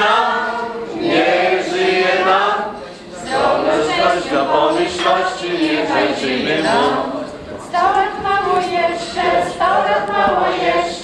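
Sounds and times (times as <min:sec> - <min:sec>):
men and women singing unaccompanied: 0:00.0 - 0:11.0.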